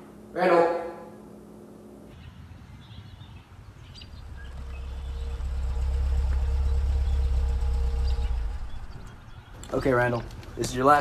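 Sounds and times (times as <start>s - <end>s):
vehicle engine rumble: 2.2s - 11.0s.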